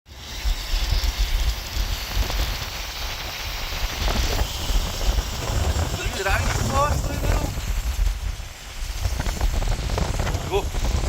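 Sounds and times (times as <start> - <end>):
rain hissing: 0.1 - 11.0
wind buffeting microphone: 0.5 - 11.0.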